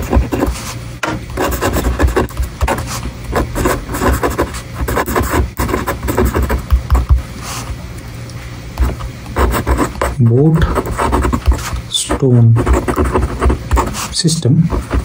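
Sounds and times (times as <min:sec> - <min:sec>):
pen writing on paper: 0:00.0 - 0:07.7, 0:08.8 - 0:15.0.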